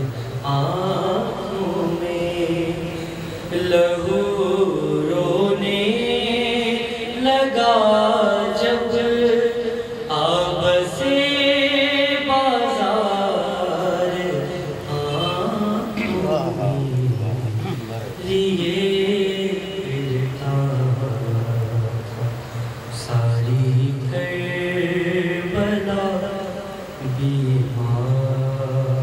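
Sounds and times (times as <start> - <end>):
man chanting a lament: 0.0 - 29.0.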